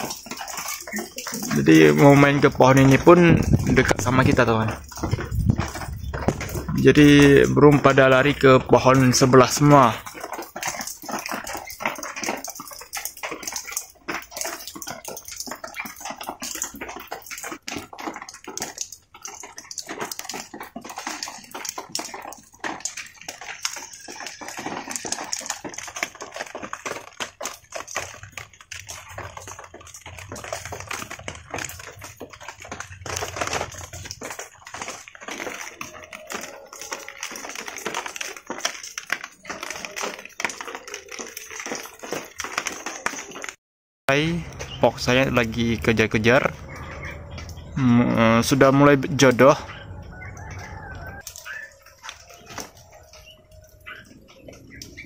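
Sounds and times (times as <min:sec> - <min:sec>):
rain falling: 0:00.0 - 0:43.5, 0:44.3 - 0:55.0.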